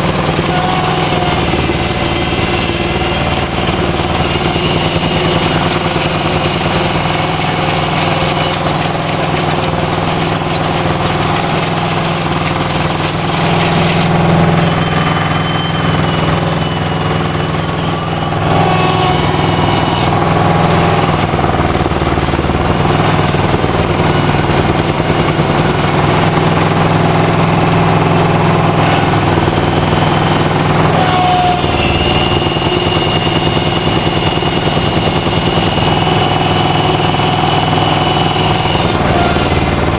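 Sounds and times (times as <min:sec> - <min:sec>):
conveyor lifting weeds: 0:00.0 - 0:39.9
engine running steadily: 0:00.0 - 0:39.9
thin high whine: 0:00.0 - 0:39.9.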